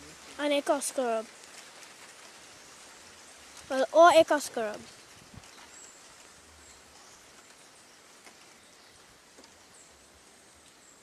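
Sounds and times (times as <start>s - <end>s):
faint river hiss: 0.0s - 11.0s.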